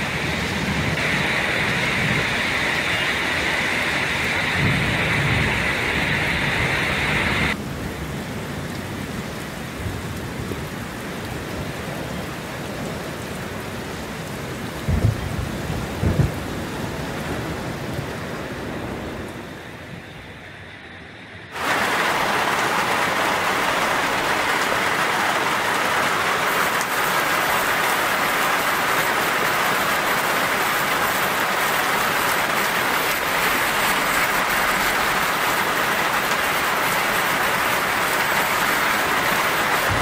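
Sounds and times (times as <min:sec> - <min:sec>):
heavy rain hissing: 0:00.0 - 0:40.0.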